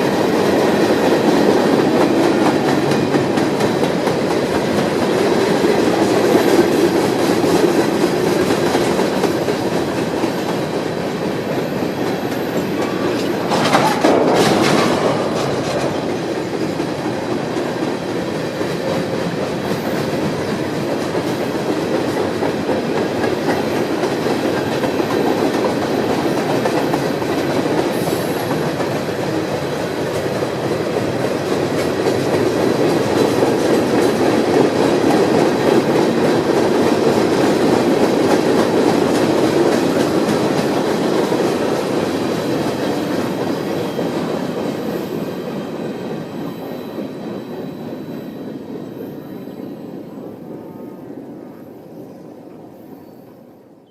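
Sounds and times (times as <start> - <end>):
train wheels clacking on track: 0.0 - 50.6.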